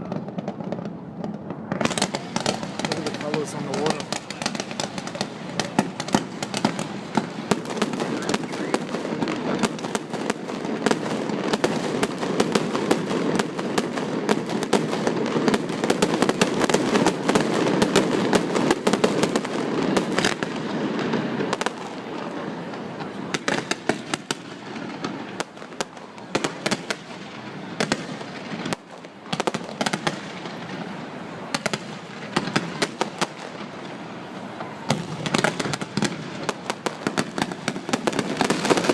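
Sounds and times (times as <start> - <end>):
fireworks cracks and bangs: 0.0 - 38.9.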